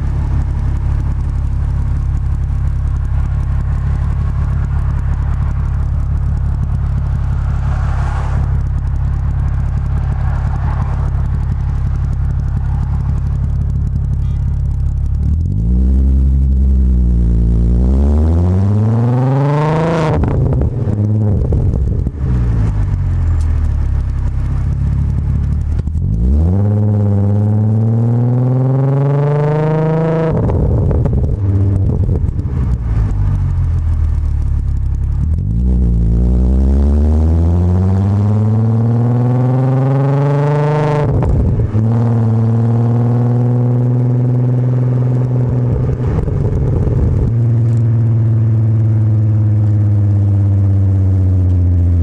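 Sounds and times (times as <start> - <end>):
car exhaust drone accelerating: 0.0 - 52.0.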